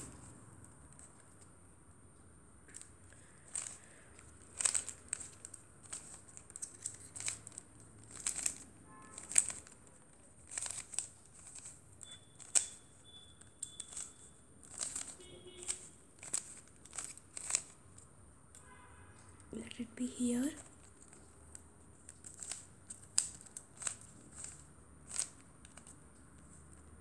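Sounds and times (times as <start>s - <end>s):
puzzle cube twisting clicks: 2.7s - 18.0s, 20.6s - 27.0s.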